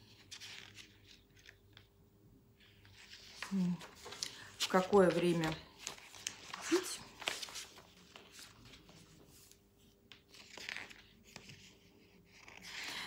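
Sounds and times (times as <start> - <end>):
paper pages rustling: 0.0 - 1.9, 2.6 - 13.0.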